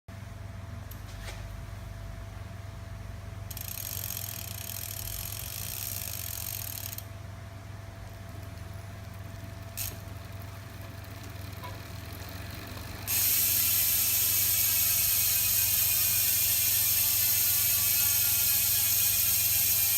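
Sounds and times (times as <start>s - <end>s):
bicycle hub ratcheting buzz: 3.4s - 19.9s.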